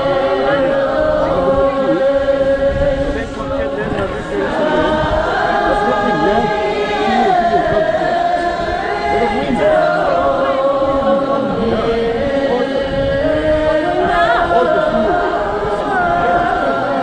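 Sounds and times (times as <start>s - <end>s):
many voices chanting: 0.0s - 17.0s.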